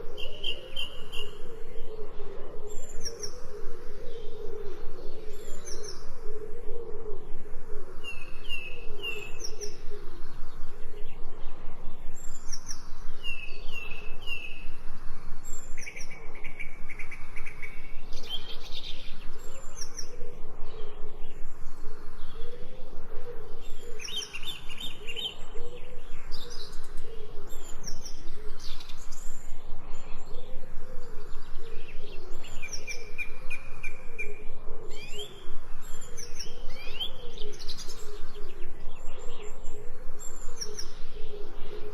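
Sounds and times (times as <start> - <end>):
songbirds chirping and trilling: 0.0 - 41.9.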